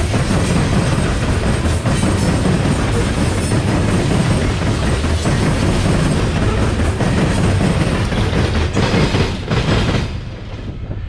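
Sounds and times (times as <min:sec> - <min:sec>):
clacks over rail joints: 0:00.0 - 0:11.0
freight train rolling past: 0:00.0 - 0:11.0.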